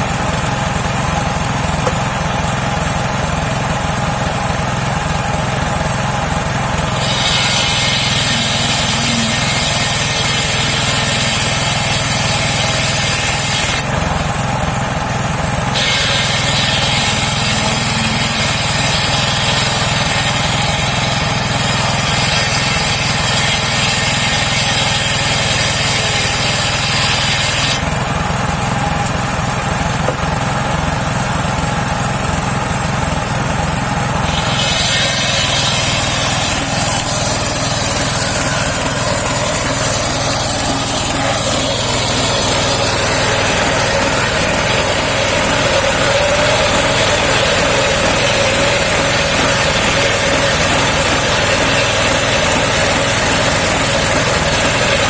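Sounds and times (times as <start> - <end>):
saw blade cutting wood: 0.0 - 55.0
sawmill engine running: 0.0 - 55.0.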